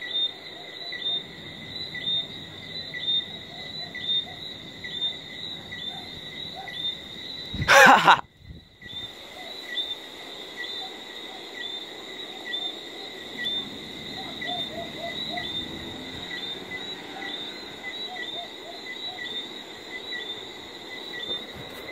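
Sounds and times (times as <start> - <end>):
crickets trilling and chirping: 0.0 - 21.9.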